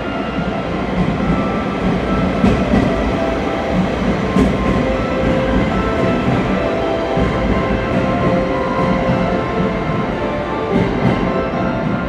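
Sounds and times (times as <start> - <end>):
train wheels rumbling on rail: 0.0 - 12.0
wheel clacks: 0.3 - 12.0.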